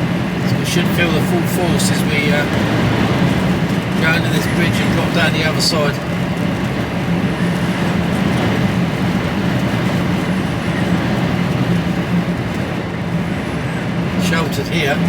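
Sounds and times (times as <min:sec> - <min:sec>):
lorry diesel engine droning: 0:00.0 - 0:15.0
road and wind noise: 0:00.0 - 0:15.0.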